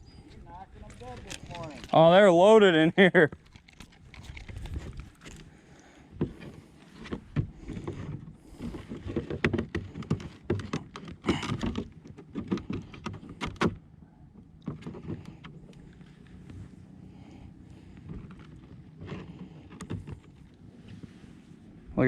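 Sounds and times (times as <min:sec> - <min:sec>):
knocks and rattles on kayak: 0:00.1 - 0:21.8.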